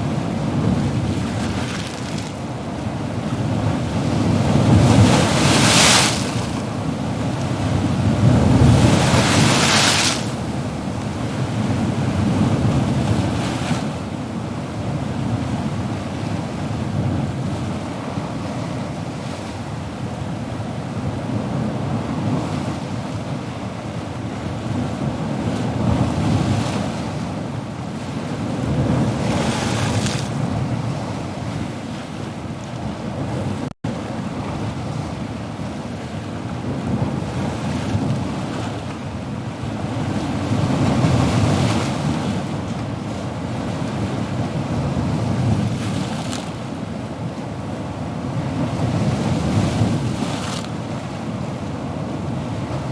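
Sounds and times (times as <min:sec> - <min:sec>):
ocean waves breaking: 0:00.0 - 0:15.0, 0:25.0 - 0:52.9.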